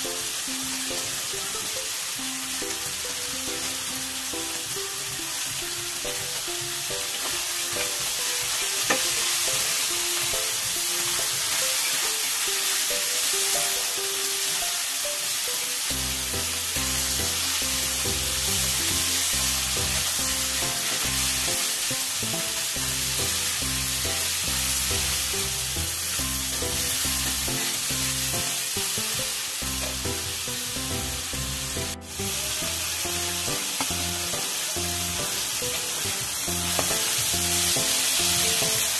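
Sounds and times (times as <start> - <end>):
background music: 0.0 - 38.9
chicken sizzling in oil: 0.0 - 38.9.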